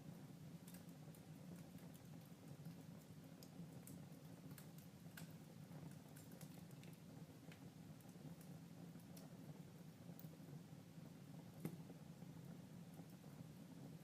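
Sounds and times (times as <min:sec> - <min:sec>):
fireplace fire crackling: 0:00.0 - 0:14.0
low steady hum: 0:00.0 - 0:14.0.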